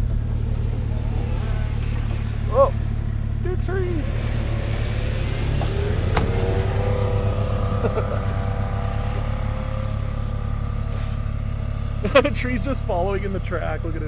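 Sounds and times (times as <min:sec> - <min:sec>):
off-road vehicle engine rumbling: 0:00.0 - 0:14.0.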